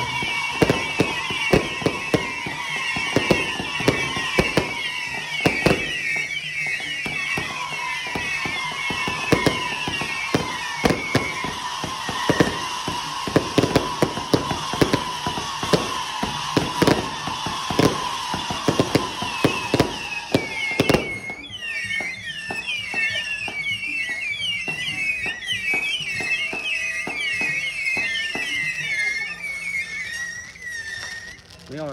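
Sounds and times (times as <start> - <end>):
fireworks bangs and crackles: 0.0 - 31.9
high warbling whistle: 0.0 - 31.9.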